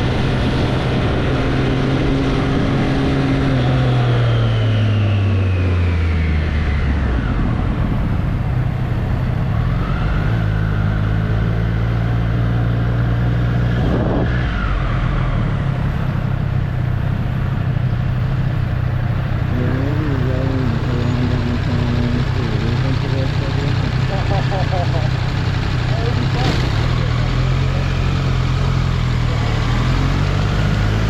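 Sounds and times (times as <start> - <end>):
motorcycle engine: 0.0 - 31.0
wind and road noise: 0.0 - 31.0.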